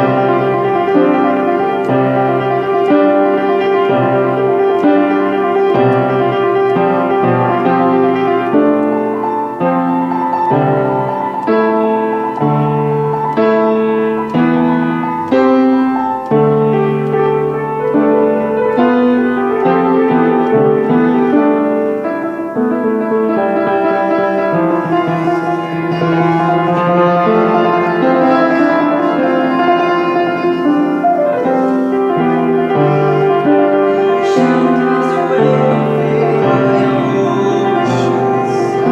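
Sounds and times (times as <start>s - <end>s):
slow solo piano: 0.0s - 38.9s.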